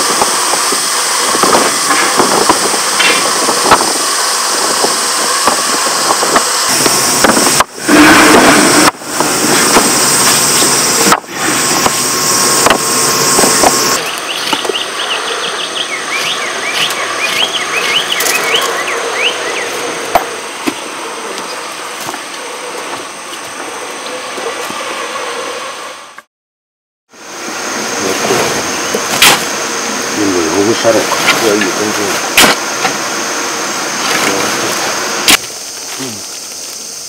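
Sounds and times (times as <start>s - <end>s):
construction machinery running: 0.0s - 26.3s, 27.2s - 36.2s.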